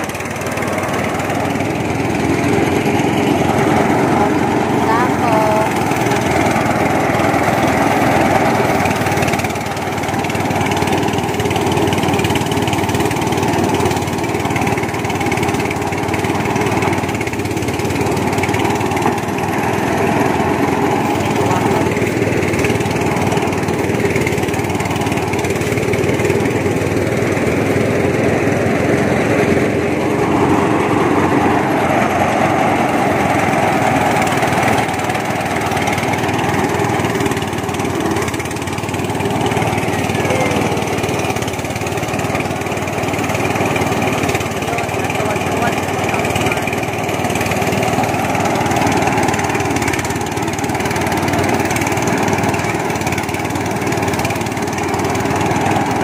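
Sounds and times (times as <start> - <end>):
rice thresher engine running: 0.0 - 56.0.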